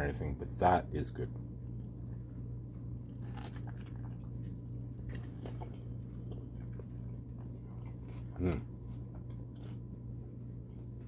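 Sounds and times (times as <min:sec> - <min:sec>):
steady low hum: 0:00.0 - 0:11.0
man chewing food: 0:01.6 - 0:11.0.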